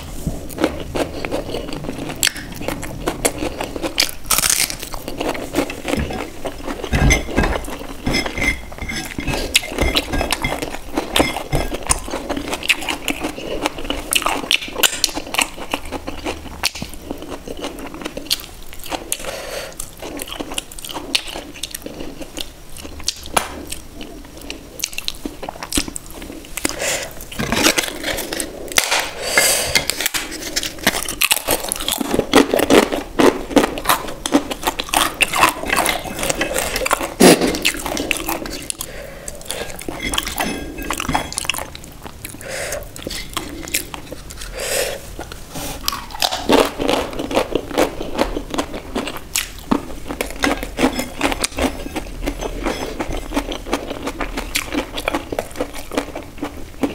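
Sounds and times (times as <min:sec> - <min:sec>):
chewing: 0:00.0 - 0:28.9, 0:29.8 - 0:56.9.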